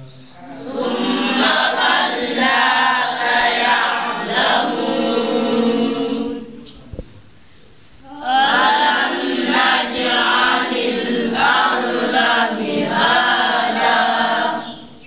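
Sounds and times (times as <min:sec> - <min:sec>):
voices chanting together: 0:00.2 - 0:06.8, 0:08.0 - 0:15.0.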